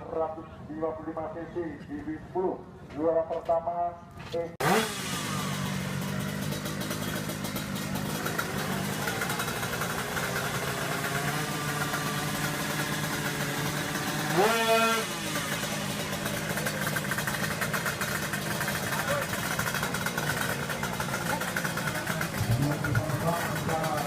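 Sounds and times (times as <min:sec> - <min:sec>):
motorcycle engine idling: 0:04.6 - 0:24.0
motorcycle engine revving: 0:04.6 - 0:24.0.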